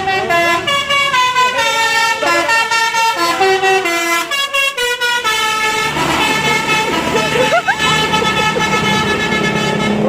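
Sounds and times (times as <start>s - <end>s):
musical bus horn playing a tune: 0.0s - 10.0s.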